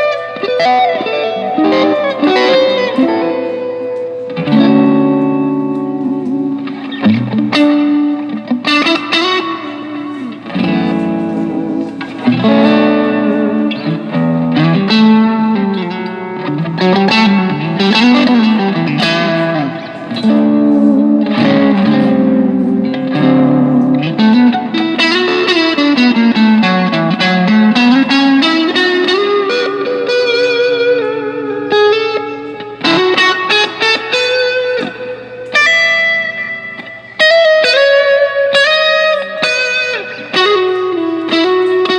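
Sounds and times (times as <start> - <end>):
electric guitar lead lines: 0.0 - 41.9.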